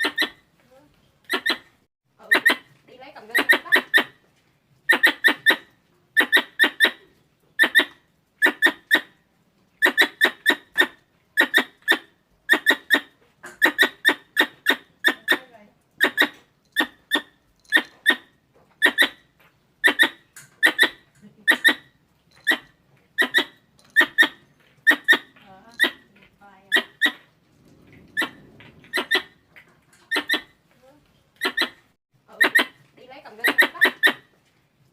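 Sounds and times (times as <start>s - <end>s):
squirrel chirps: 0.0s - 0.4s, 1.2s - 4.2s, 4.8s - 9.1s, 9.8s - 27.3s, 28.1s - 30.6s, 31.4s - 34.3s.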